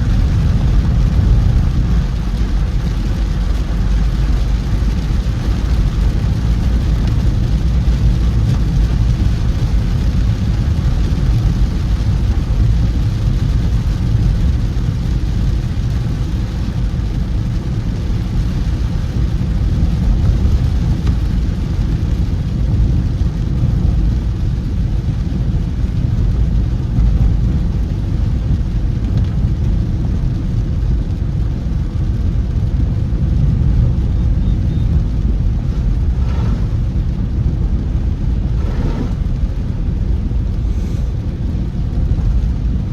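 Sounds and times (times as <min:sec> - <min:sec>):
car engine and tyres rumbling: 0:00.0 - 0:42.9
rain and spray hiss: 0:00.0 - 0:42.9.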